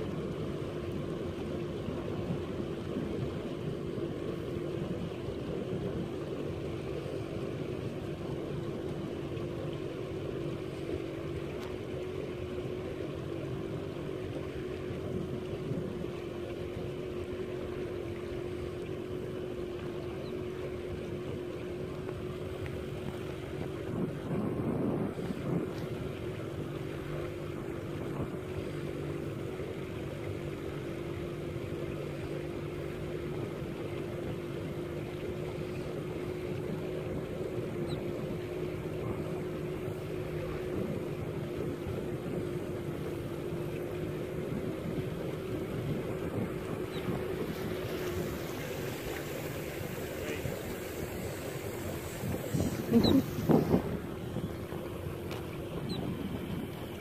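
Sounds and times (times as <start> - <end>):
boat motor running: 0.0 - 57.0.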